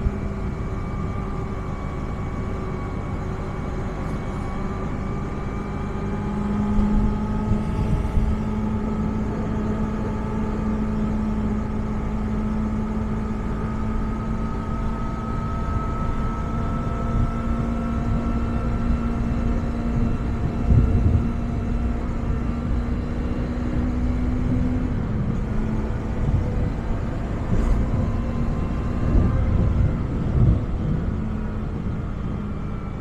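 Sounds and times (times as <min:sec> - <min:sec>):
low wind rumble: 0:00.0 - 0:33.0.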